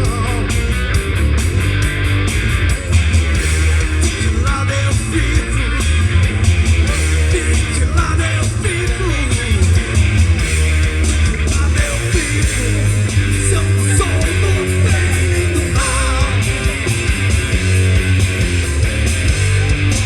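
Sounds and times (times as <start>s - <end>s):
punk rock band playing: 0.0s - 20.0s.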